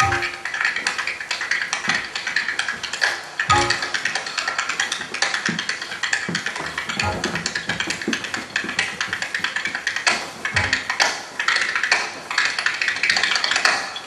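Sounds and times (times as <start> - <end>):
feet tapping on wooden floor: 0.0 - 14.0.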